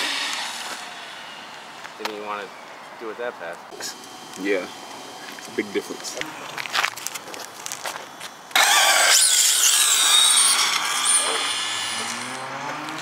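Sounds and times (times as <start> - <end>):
electric rc cars whining: 0.0 - 2.8, 3.8 - 13.0.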